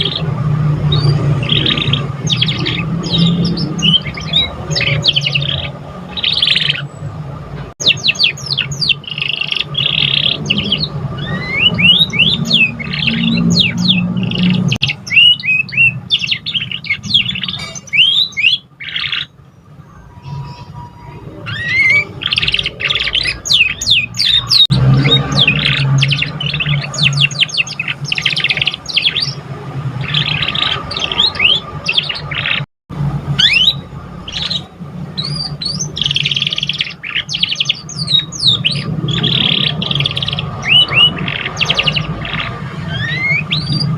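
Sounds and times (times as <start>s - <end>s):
canary singing: 0.0s - 32.7s, 33.3s - 43.9s.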